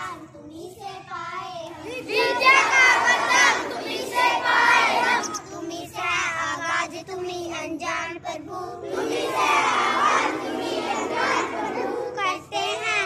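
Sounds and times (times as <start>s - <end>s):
children singing in unison: 0.9s - 13.0s.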